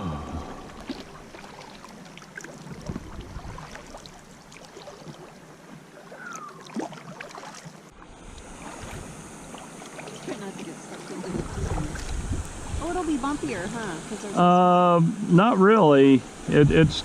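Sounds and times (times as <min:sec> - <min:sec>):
water rippling and splashing: 0:00.0 - 0:17.0
paddle dipping and dripping: 0:00.2 - 0:15.0.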